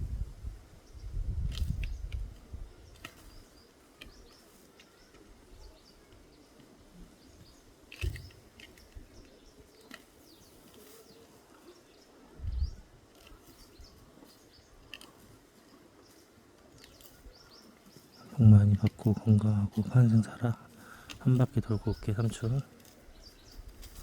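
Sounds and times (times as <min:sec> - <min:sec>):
outdoor ambience: 0:00.0 - 0:24.0
faint bird chirps: 0:00.8 - 0:24.0.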